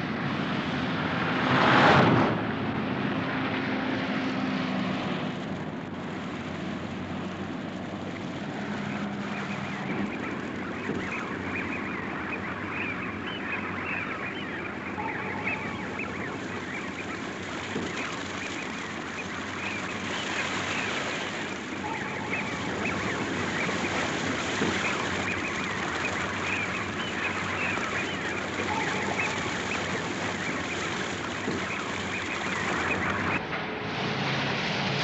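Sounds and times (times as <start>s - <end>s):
flock of waterbirds calling: 1.1s - 35.0s.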